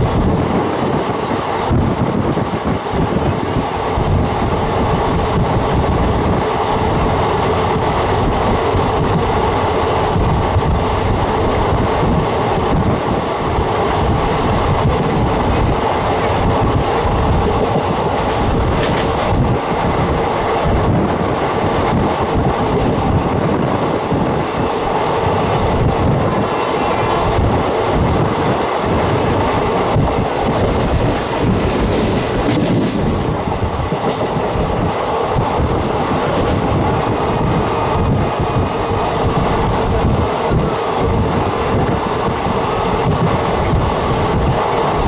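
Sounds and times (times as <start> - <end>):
train wheels rumbling and rattling: 0.0 - 45.0.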